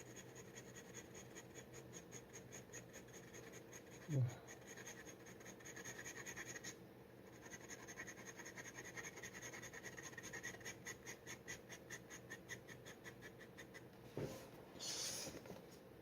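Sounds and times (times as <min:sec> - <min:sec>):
dip pen scratching on paper: 0:00.0 - 0:13.9.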